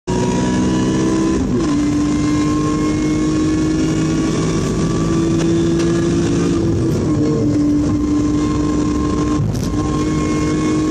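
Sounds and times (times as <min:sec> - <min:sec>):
car engine revving: 0:00.1 - 0:10.9.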